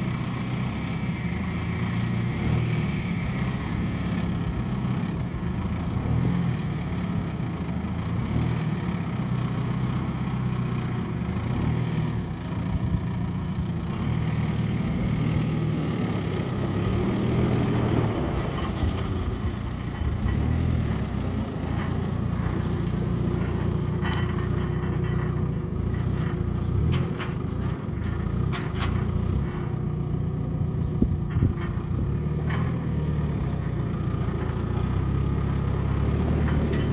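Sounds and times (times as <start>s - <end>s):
telehandler diesel engine running: 0.0s - 36.9s.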